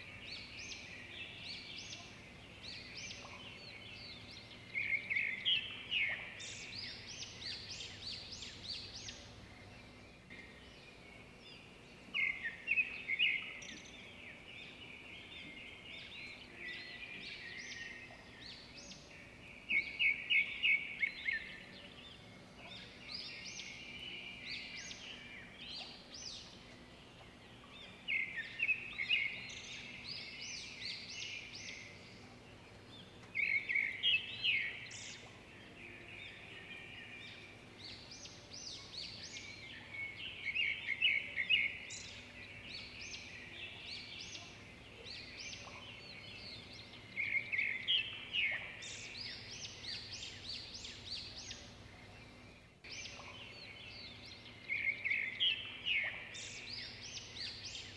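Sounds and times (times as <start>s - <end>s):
faint outdoor background noise: 0.0s - 57.9s
songbirds chirping: 0.0s - 57.9s.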